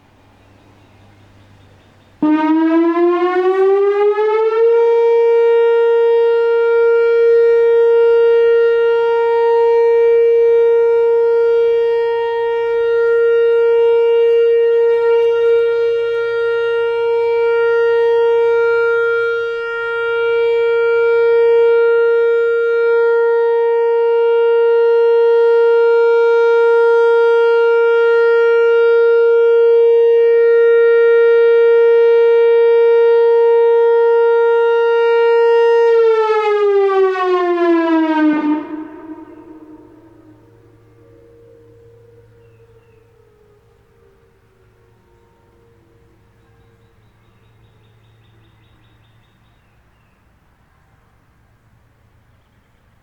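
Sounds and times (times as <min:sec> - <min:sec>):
rotating warning siren: 0:00.0 - 0:53.0.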